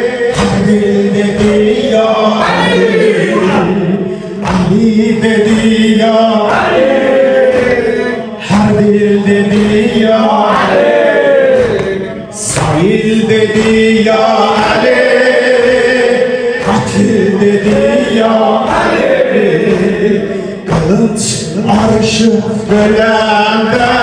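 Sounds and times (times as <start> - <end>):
men chanting a lament: 0.0 - 24.0.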